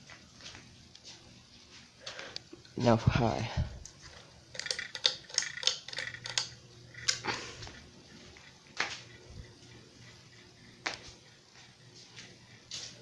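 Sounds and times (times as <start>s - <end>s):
ceiling fan motor hum: 0.0s - 13.0s
fan clicks and rattles: 2.3s - 13.0s.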